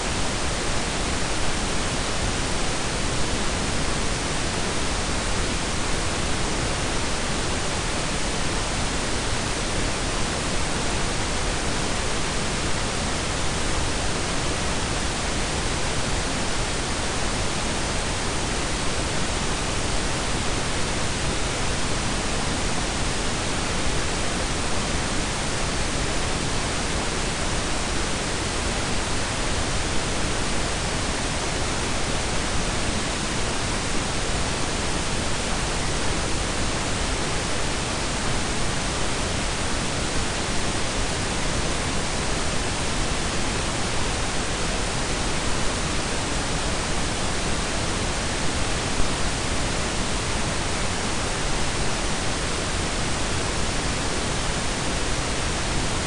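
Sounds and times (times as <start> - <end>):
steady noise hiss: 0.0 - 56.0.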